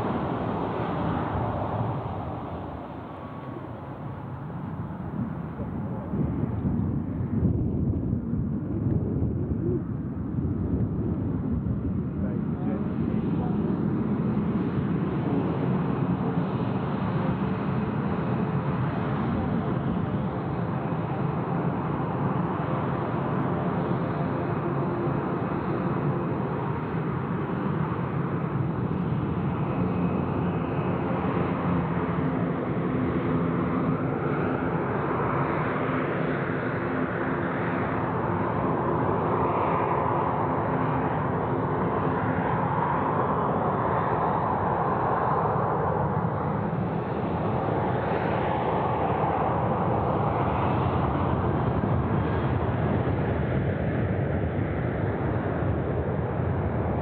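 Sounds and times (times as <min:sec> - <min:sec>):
jet engines whining at low power: 0:00.0 - 0:57.0.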